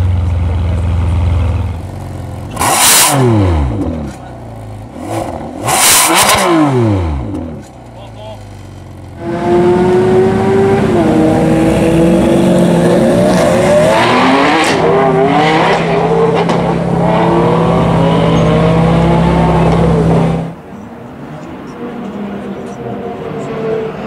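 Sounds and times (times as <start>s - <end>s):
sports car engine accelerating: 0.1s - 7.8s, 8.4s - 24.0s.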